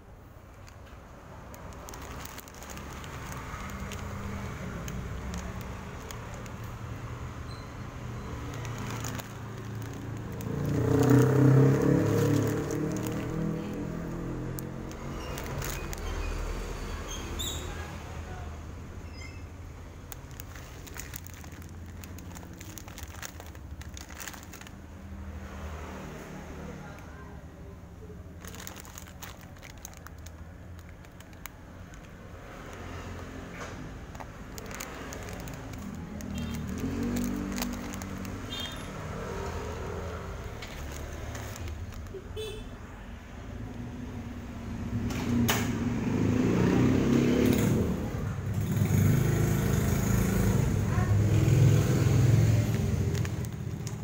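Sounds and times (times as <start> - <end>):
engine rumbling: 0.0 - 54.0
small clicks and crackles: 0.4 - 17.8, 19.9 - 27.2, 28.4 - 42.5, 48.5 - 54.0.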